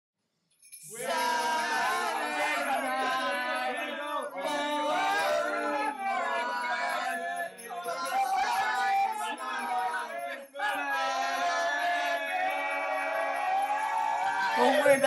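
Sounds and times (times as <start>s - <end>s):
group of voices singing: 0.9s - 15.0s.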